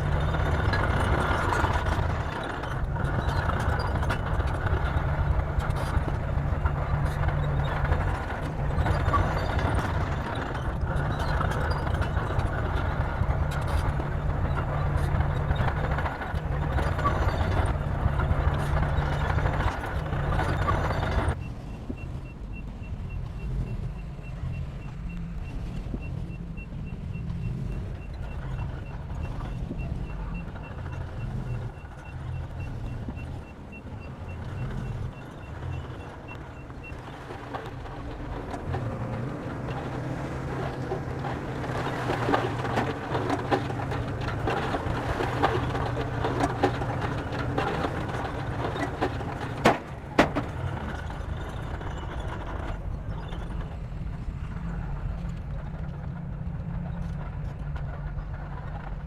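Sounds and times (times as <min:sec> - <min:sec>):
metallic clatter of tracks: 0:00.0 - 0:22.0, 0:23.1 - 0:59.0
bulldozer diesel engine drone: 0:00.0 - 0:59.0.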